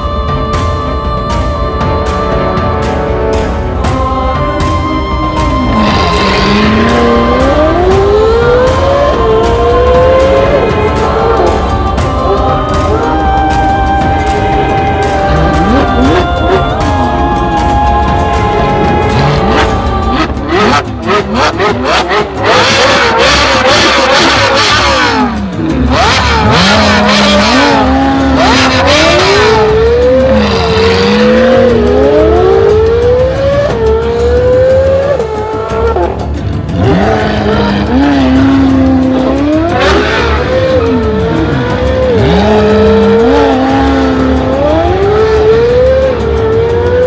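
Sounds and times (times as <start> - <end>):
race car engine accelerating: 0.0 - 47.0.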